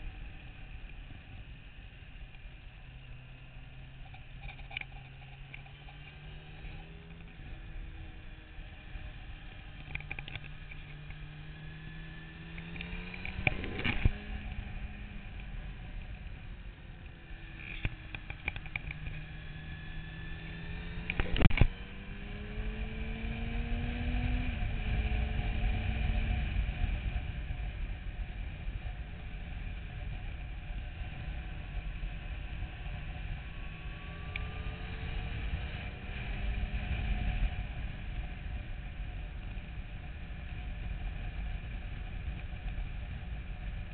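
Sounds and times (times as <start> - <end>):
motorcycle engine revving: 0.0 - 43.9
wind and road noise: 0.0 - 43.9.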